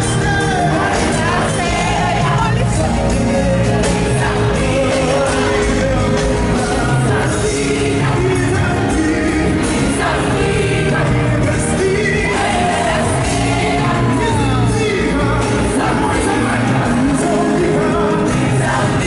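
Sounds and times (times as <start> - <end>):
gospel music with band: 0.0 - 19.0.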